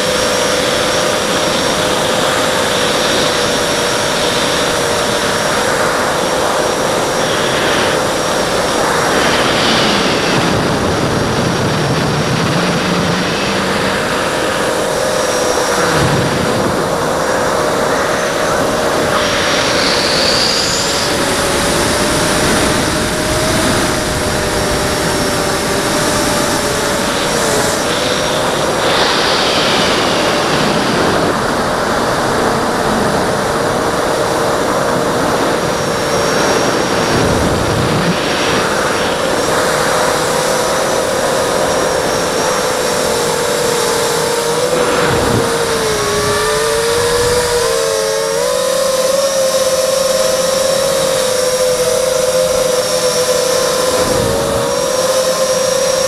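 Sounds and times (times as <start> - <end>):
drone motors whining: 0.0 - 56.0
rushing noise: 0.0 - 56.0.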